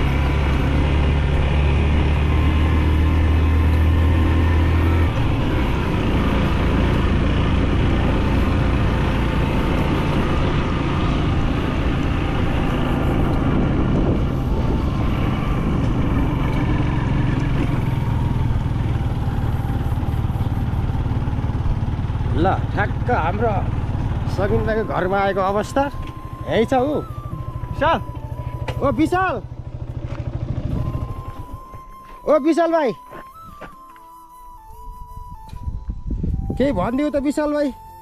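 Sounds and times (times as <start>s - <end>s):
motorcycle engine running: 0.0s - 34.0s
tyres on gravel road: 0.0s - 34.7s, 35.5s - 38.0s.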